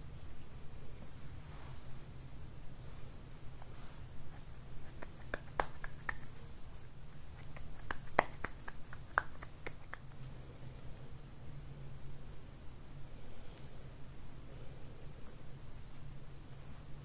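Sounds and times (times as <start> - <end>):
hands rubbing dough: 2.8 - 17.0.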